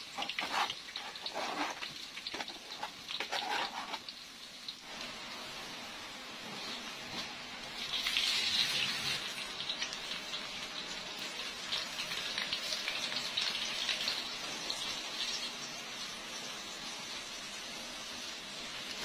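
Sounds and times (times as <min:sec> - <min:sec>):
crackling sizzle: 0:00.0 - 0:19.0.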